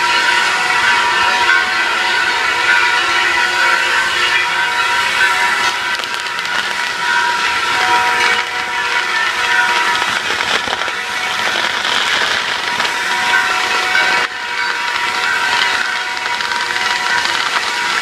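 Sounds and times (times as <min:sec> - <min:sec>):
fireworks gushing hiss: 0:00.0 - 0:18.0
fireworks whistling tones: 0:02.8 - 0:18.0.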